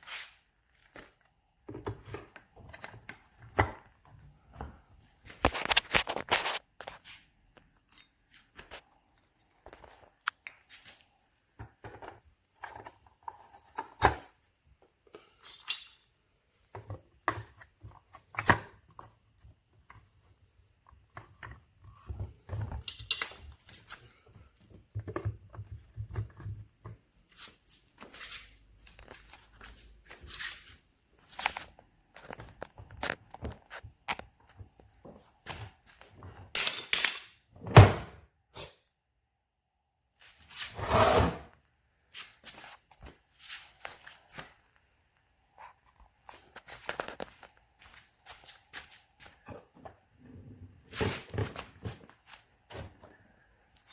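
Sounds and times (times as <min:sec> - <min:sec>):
clicks and rustles of handling: 0:00.2 - 0:16.0, 0:16.6 - 0:37.4, 0:42.1 - 0:50.2.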